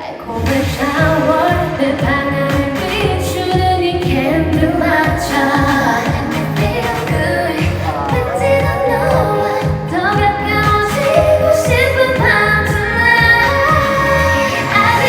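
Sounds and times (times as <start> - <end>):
pop song with female vocal: 0.0 - 15.0.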